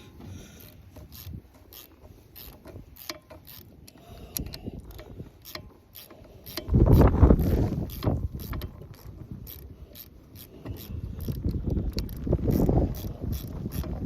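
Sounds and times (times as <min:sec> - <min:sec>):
ratchet wrench clicking: 0:00.4 - 0:14.0.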